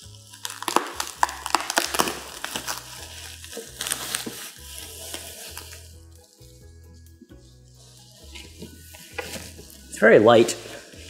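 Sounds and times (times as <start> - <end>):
background music with bass line: 0.0 - 11.0
bubble wrap crackling: 0.0 - 11.0.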